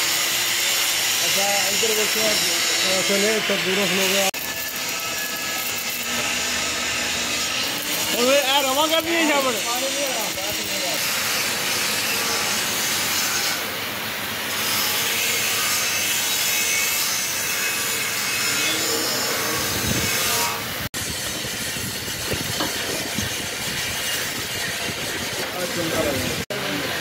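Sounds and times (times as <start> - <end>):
rasping hiss of metal work: 0.0 - 26.4.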